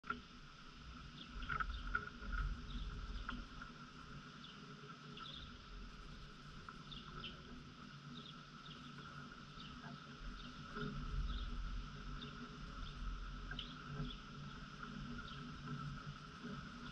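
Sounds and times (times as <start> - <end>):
insect drone: 0.1 - 16.9.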